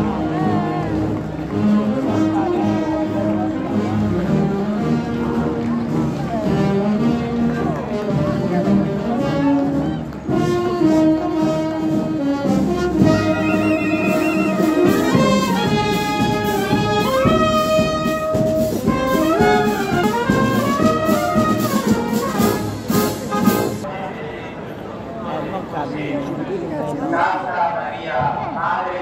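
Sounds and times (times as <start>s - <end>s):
brass band playing a march: 0.0s - 23.9s.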